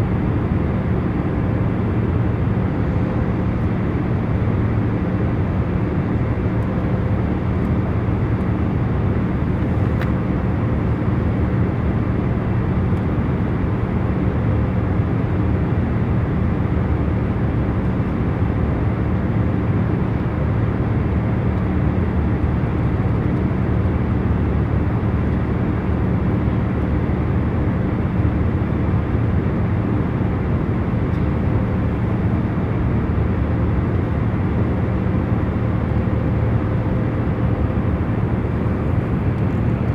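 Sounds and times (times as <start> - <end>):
jet airliner cabin roar: 0.0 - 39.9.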